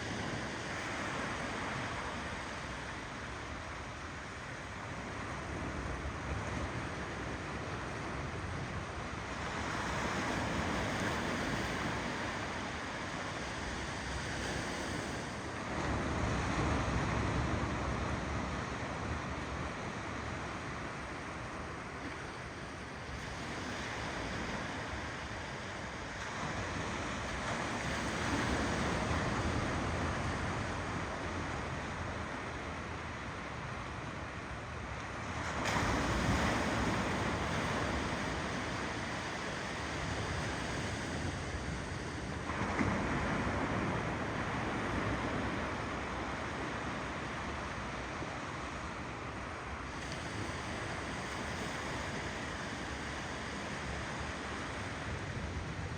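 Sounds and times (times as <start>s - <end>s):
ocean waves washing on shore: 0.0s - 55.9s.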